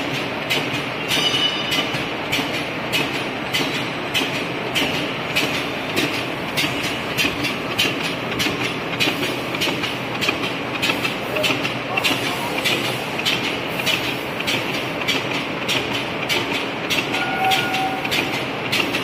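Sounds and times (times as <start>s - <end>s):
machine running noise: 0.0s - 19.0s.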